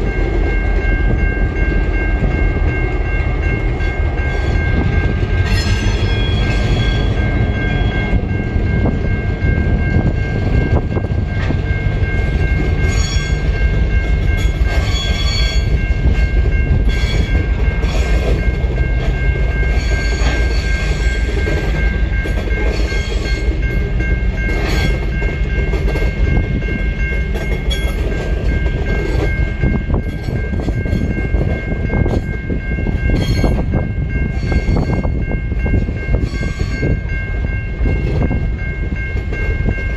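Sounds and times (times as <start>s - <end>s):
rail joint clicks: 0.0s - 39.9s
train wheels rumbling on rail: 0.0s - 39.9s.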